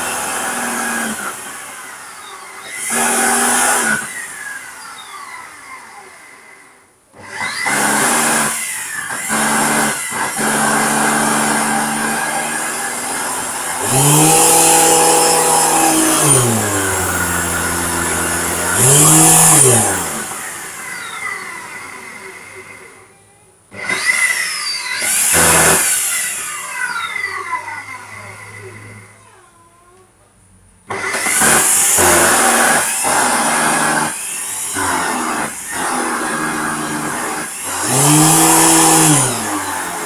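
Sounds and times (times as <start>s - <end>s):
vacuum cleaner motor humming: 0.0s - 23.1s, 23.7s - 29.4s, 30.9s - 40.0s.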